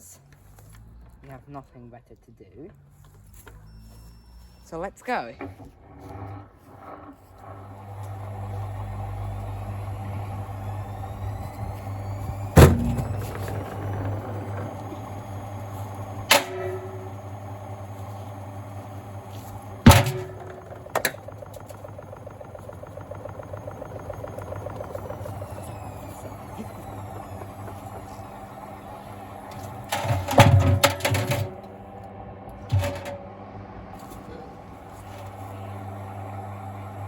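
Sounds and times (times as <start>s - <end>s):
washing machine motor hum: 5.1s - 37.0s.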